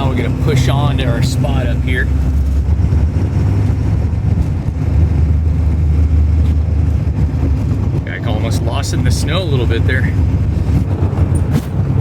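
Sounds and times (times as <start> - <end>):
diesel truck engine running: 0.0 - 12.0
road noise on snowy road: 0.0 - 12.0.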